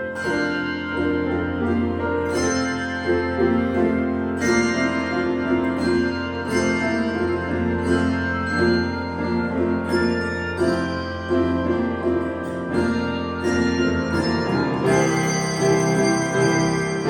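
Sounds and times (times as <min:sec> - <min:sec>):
handbell choir ringing: 0:00.0 - 0:17.0.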